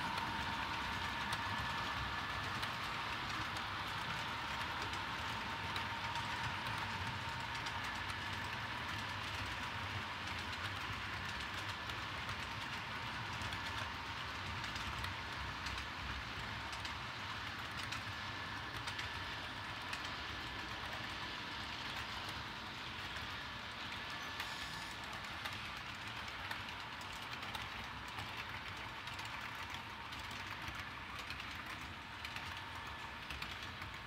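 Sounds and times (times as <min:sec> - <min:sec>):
model train cars rolling: 0:00.0 - 0:34.0.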